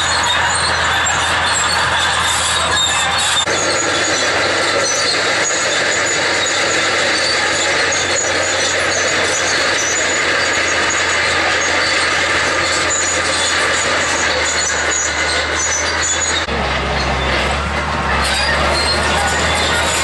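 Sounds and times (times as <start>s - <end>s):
diesel engine under load: 0.0s - 20.0s
steel tracks squeaking: 0.0s - 20.0s.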